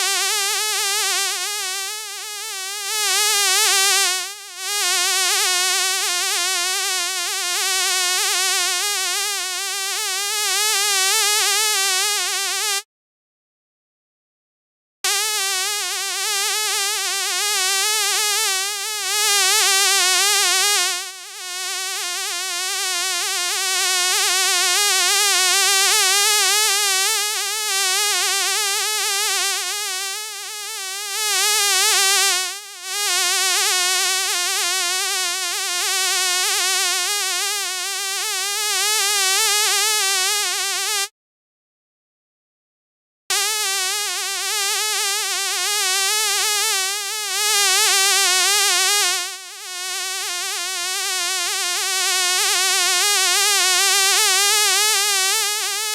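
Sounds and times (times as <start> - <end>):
fly buzzing: 0.0 - 12.8, 15.1 - 23.7, 25.8 - 41.1, 43.3 - 51.9.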